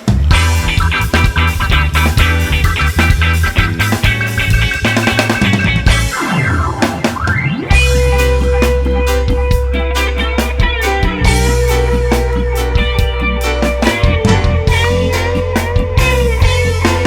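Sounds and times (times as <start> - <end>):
deep bass: 0.0 - 6.8, 7.5 - 17.0
rock music with guitar and drums: 0.0 - 17.0.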